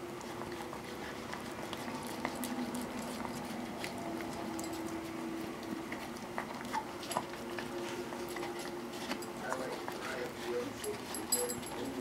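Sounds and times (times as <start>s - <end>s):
puppy licking plastic container: 0.0s - 12.0s
steady low hum: 0.0s - 12.0s.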